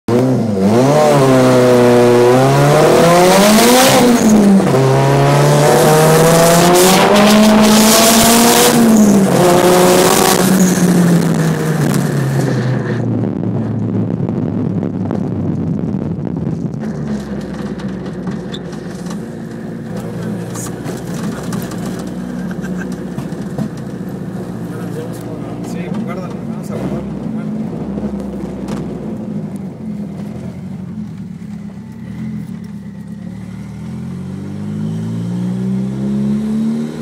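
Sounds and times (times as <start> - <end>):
turbocharged car engine pulling hard: 0.1 - 37.0.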